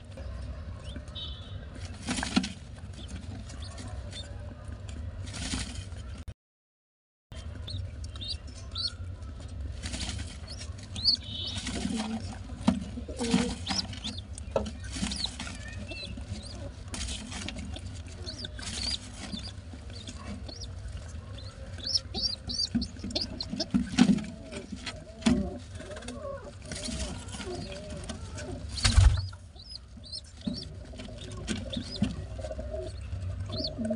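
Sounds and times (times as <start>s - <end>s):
squab squeaking and peeping: 0.2s - 4.4s, 7.3s - 33.9s
rustling and wing-flapping: 1.8s - 4.2s, 5.2s - 6.2s, 8.2s - 33.9s.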